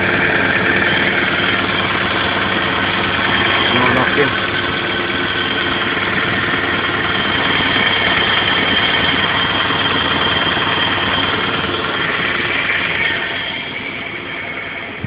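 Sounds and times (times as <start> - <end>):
car engine running: 0.0 - 15.0
high-pitched whine: 0.0 - 15.0.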